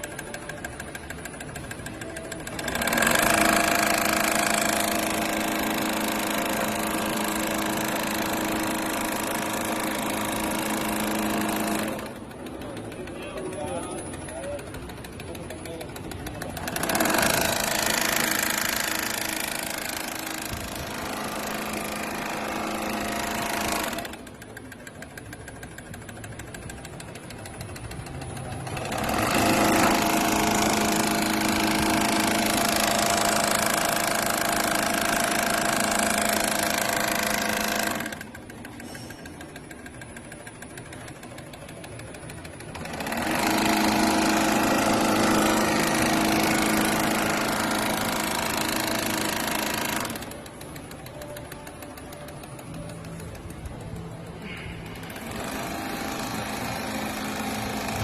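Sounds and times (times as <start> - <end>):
sewing machine running: 0.0 - 58.0.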